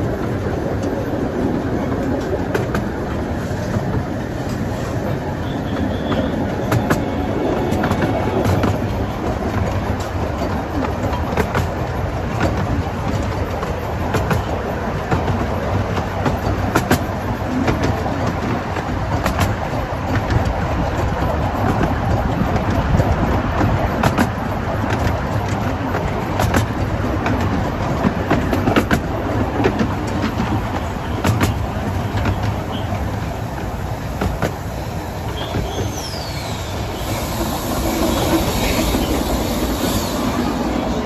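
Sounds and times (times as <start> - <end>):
train wheels rumbling on rails: 0.0 - 41.0
wheels clicking over rail joints: 0.0 - 41.0.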